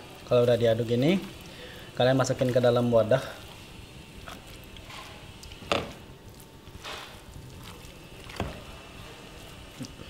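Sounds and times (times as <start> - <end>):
soft squelching of food handling: 0.0 - 10.0.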